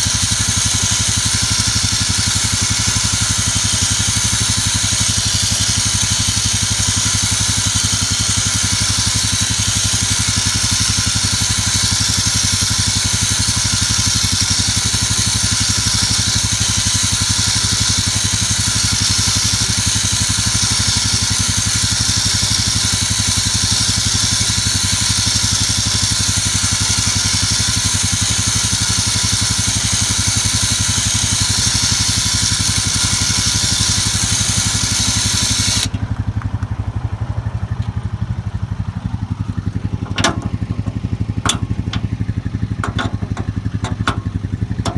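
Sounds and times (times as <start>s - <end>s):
motor humming steadily: 0.0s - 44.9s.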